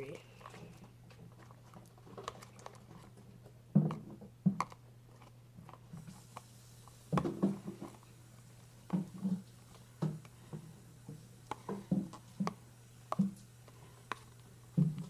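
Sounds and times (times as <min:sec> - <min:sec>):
slime stirred in container: 0:00.0 - 0:15.0.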